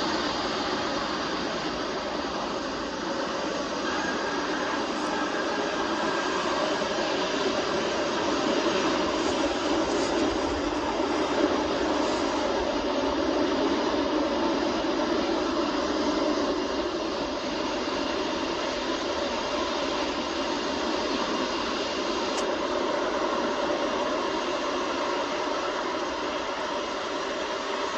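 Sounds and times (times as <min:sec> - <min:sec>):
faint steady whining tones: 0:00.0 - 0:27.9
jet airliner engines running: 0:00.0 - 0:27.9.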